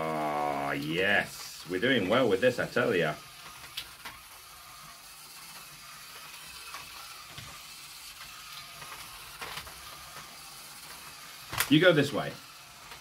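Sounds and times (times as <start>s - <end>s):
toy trucks whirring: 0.0s - 13.0s.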